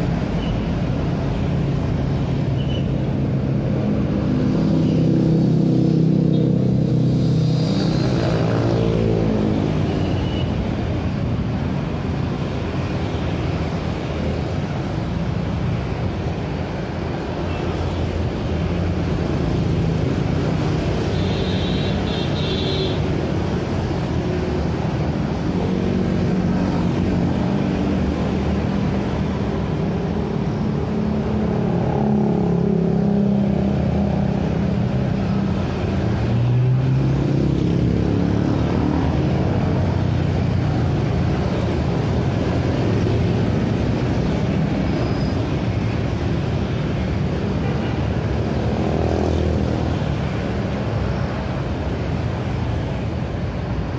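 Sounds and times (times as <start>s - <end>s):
scooters and cars passing: 0.0s - 53.9s.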